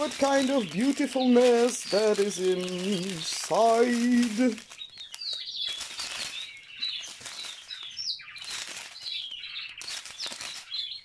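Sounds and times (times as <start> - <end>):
birds chirping: 0.0 - 11.0
plastic bags crinkling: 0.0 - 11.0.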